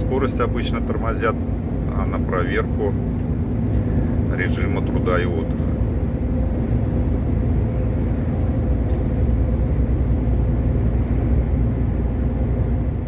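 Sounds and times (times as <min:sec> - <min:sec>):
truck driving on highway: 0:00.0 - 0:13.0.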